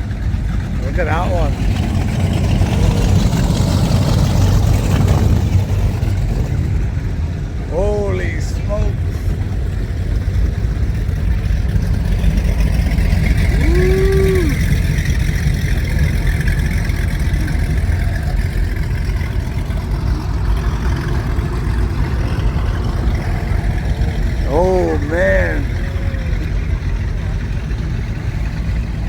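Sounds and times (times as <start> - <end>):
powerboat engines rumbling: 0.0 - 29.0.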